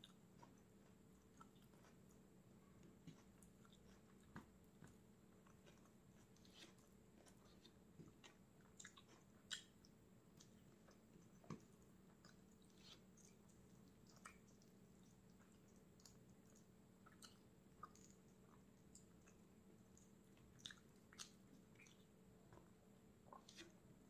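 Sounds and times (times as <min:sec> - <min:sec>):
chewing and eating mouth sounds: 0:00.0 - 0:23.9.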